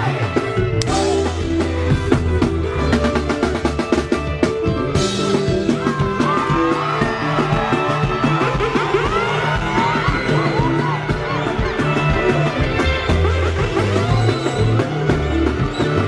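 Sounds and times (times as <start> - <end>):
drum kit fast beat: 0.0 - 16.0
sustained bass notes: 0.0 - 16.0.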